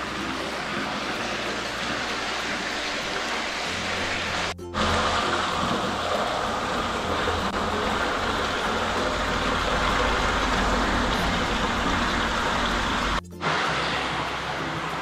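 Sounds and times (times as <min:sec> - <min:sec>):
water flowing into drain: 0:00.0 - 0:15.0.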